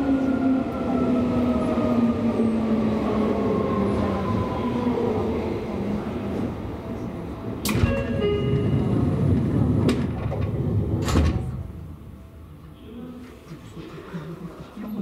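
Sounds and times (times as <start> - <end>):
train low rumble: 0.0 - 13.5.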